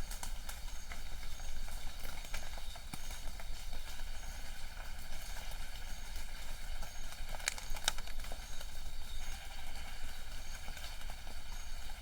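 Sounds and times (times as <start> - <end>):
patter of raindrops: 0.0 - 12.0.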